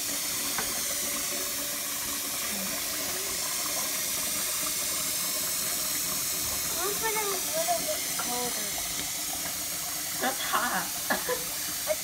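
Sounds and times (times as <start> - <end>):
faucet running into pot of water: 0.0 - 12.0.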